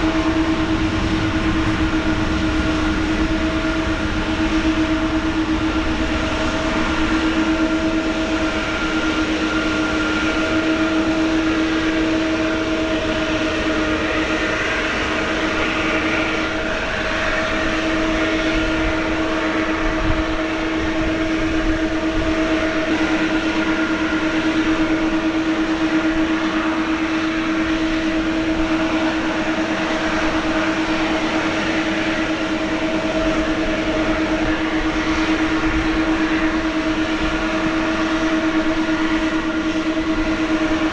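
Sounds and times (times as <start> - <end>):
jet engines whining at low power: 0.0 - 40.9.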